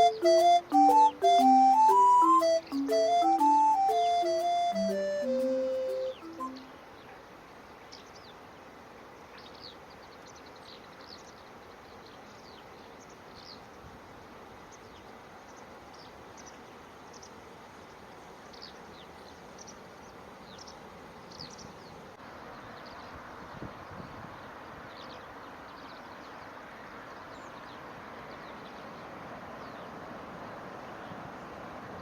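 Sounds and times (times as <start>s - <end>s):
outdoor background hiss: 0.0s - 32.0s.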